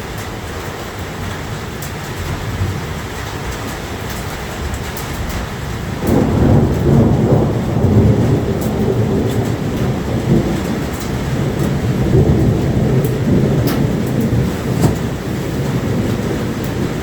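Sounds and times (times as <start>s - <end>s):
rolling thunder rumble: 0.0s - 17.0s
steady rain: 0.0s - 17.0s.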